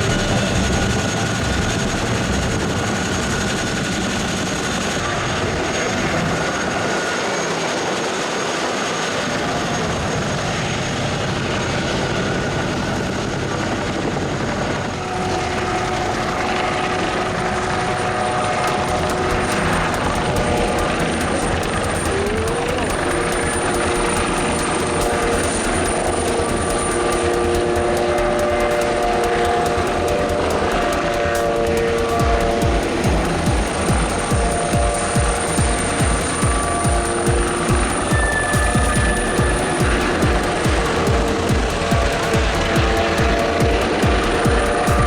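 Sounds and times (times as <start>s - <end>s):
helicopter running: 0.0s - 45.0s.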